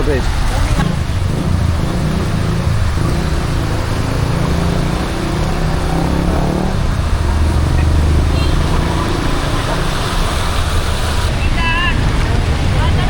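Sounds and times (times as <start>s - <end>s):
car engine running: 0.0s - 13.0s
road noise hiss: 0.0s - 13.0s.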